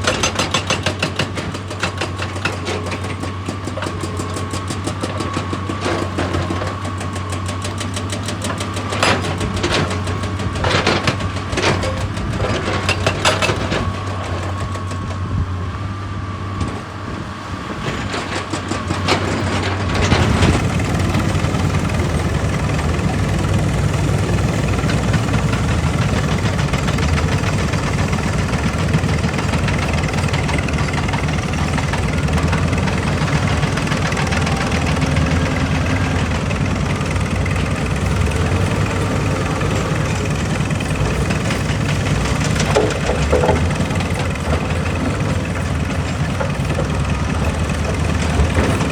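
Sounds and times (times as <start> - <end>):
heavy diesel machinery running: 0.0 - 48.9.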